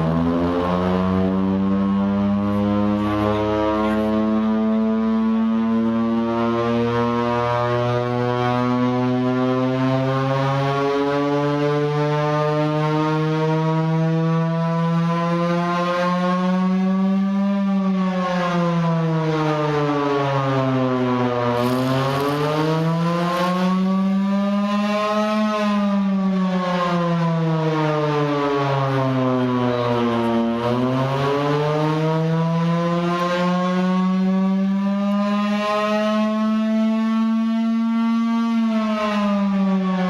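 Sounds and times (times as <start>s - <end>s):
siren wailing: 0.0s - 40.0s.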